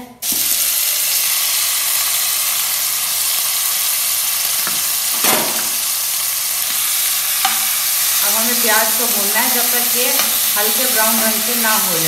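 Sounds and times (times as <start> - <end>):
onions sizzling in oil: 0.2 - 12.0.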